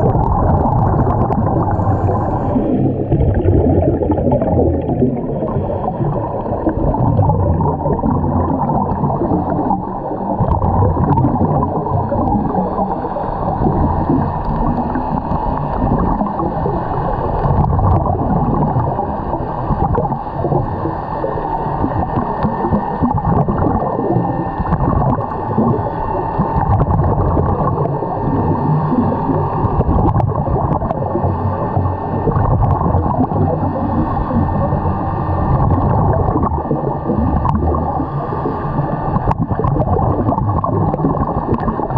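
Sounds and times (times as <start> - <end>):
muffled underwater rumble: 0.0 - 41.9
water gurgling: 0.0 - 41.9.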